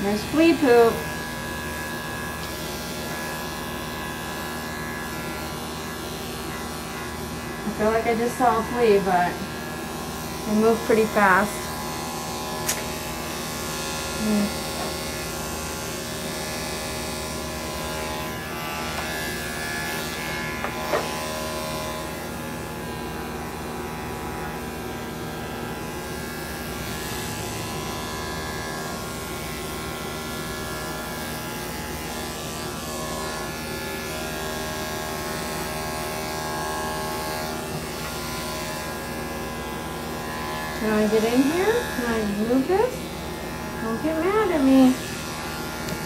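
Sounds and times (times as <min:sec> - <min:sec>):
electric clippers buzzing: 0:00.0 - 0:46.0.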